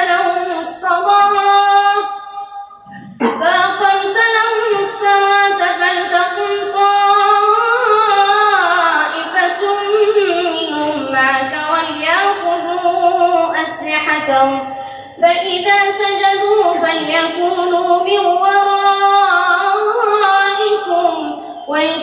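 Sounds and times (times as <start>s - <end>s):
boy chanting into a microphone: 0.0s - 2.2s, 2.8s - 22.0s.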